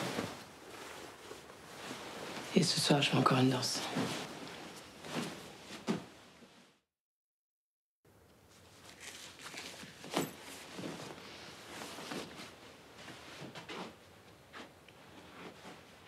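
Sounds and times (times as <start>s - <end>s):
rustling: 0.0s - 6.0s, 8.5s - 16.0s.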